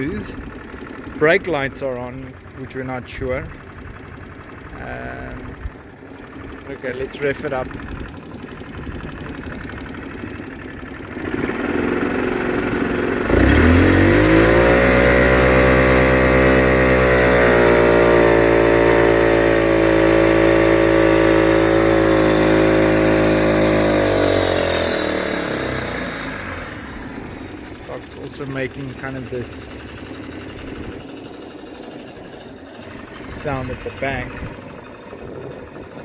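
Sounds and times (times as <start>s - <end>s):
quad bike engine revving: 0.0s - 36.0s.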